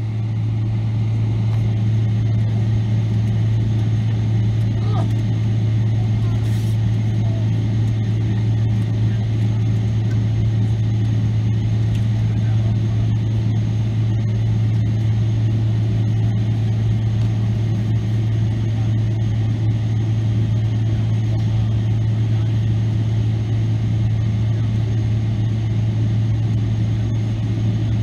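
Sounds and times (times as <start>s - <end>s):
aircraft cabin engine hum: 0.0s - 28.0s.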